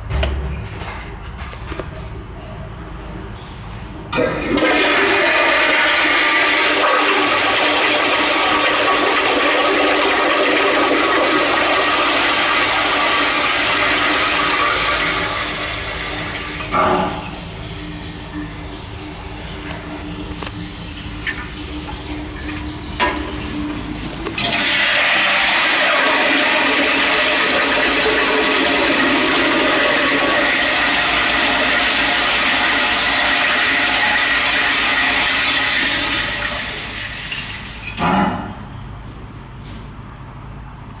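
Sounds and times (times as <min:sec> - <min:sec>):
toilet flushing water rush: 0:04.1 - 0:38.5.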